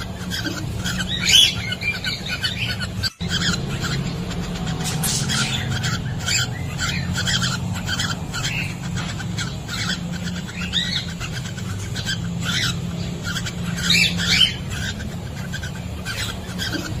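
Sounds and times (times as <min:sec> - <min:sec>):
parrots chirping high calls: 0:00.0 - 0:17.0
steady low hum: 0:00.0 - 0:17.0.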